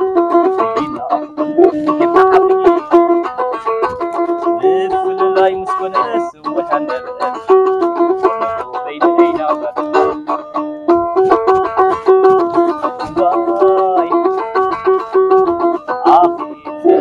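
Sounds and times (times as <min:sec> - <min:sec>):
plucked lyre melody: 0:00.0 - 0:17.0.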